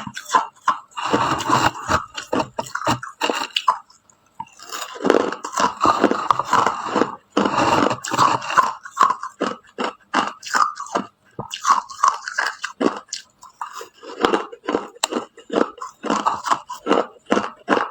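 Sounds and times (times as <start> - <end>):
person crunching ice: 0.0 - 3.8, 4.4 - 17.9.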